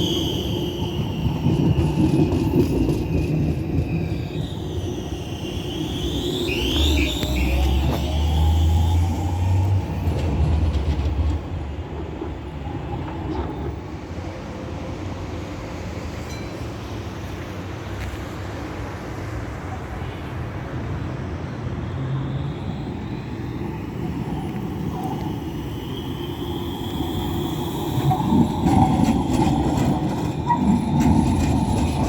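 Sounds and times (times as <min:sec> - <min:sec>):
tram rumbling along track: 0:00.0 - 0:32.0.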